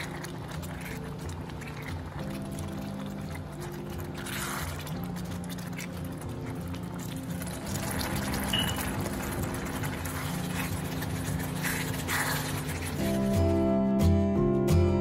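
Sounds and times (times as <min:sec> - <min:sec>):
spatula stirring meat in gravy: 0:00.0 - 0:13.8
acoustic guitar music: 0:00.0 - 0:15.0
soft background music: 0:00.0 - 0:15.0.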